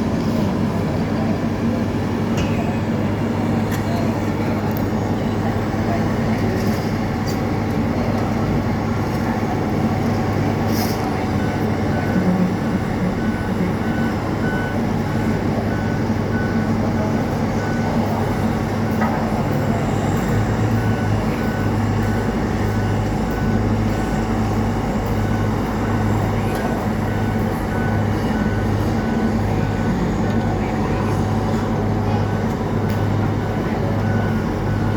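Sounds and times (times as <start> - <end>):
truck engine running: 0.0 - 34.9.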